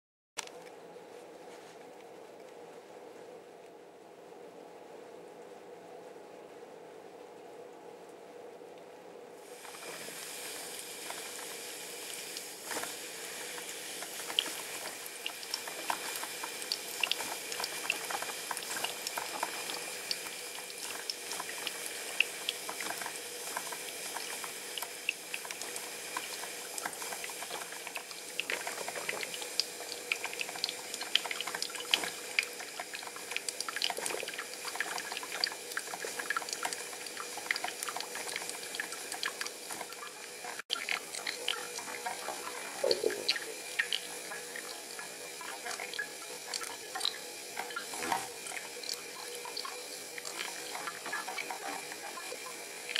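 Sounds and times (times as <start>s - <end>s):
coffee maker hissing and popping: 9.4s - 52.9s.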